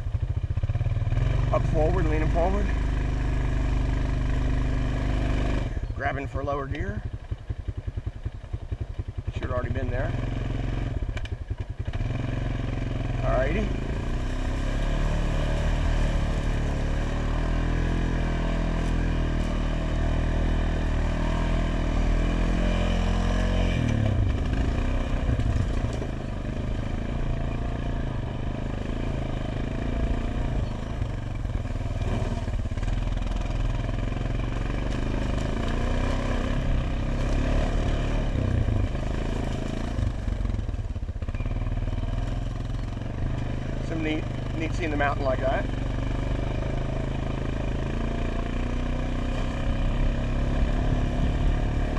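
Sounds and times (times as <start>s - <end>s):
atv engine running under load: 0.0s - 51.9s.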